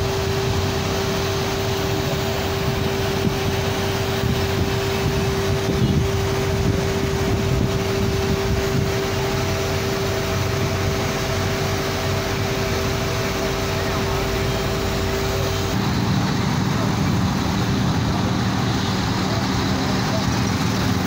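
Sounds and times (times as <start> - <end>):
crane engine whine and rumble: 0.0 - 21.0.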